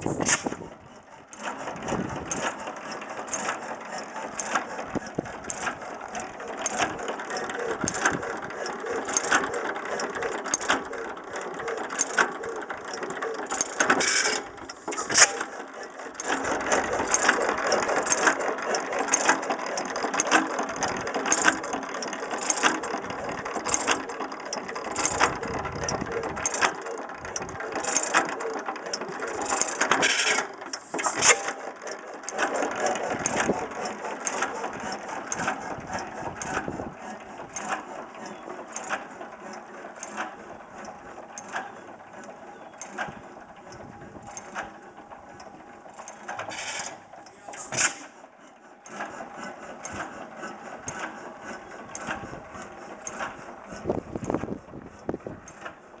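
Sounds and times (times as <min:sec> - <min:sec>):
antique gas engine running: 0:00.0 - 0:56.0
clatter of valve gear: 0:00.0 - 0:56.0.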